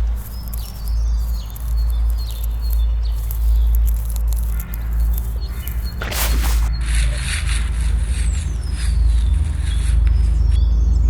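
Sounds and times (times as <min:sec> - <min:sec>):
crackling rustles: 0:00.0 - 0:10.7.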